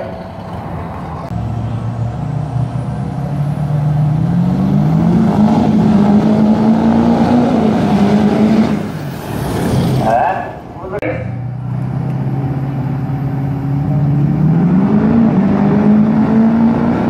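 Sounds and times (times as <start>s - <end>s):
diesel trucks accelerating hard: 0.0s - 17.0s.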